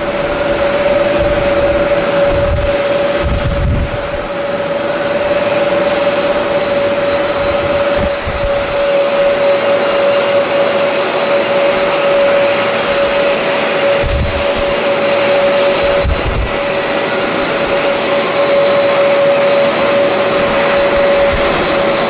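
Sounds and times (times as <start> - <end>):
wind buffeting microphone: 0.0 - 9.8, 11.8 - 22.0
jet engines roaring: 0.0 - 22.0.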